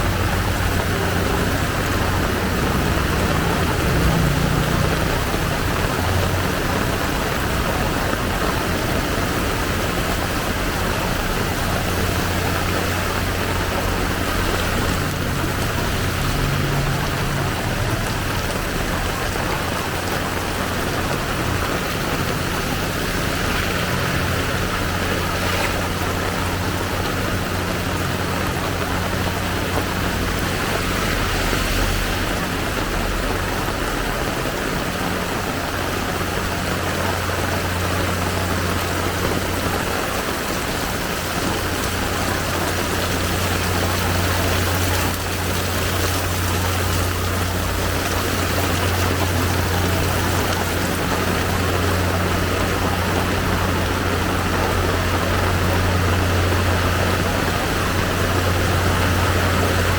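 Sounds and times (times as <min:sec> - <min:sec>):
heavy rain hissing: 0:00.0 - 0:59.9
vehicle engine humming: 0:00.0 - 0:59.9.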